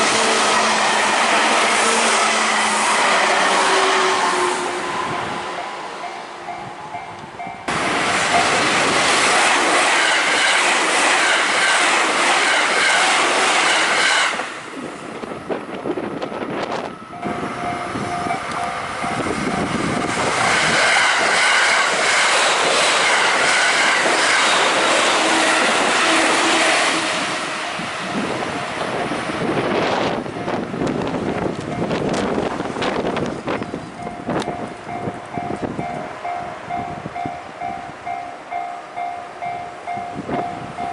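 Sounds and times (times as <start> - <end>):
electric train passing: 0.0 - 40.9.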